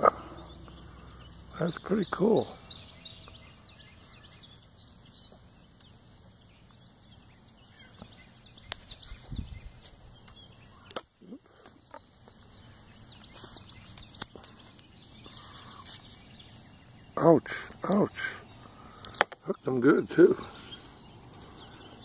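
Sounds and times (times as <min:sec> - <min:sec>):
bird chirps: 0:00.0 - 0:22.0
high insect drone: 0:00.0 - 0:22.0.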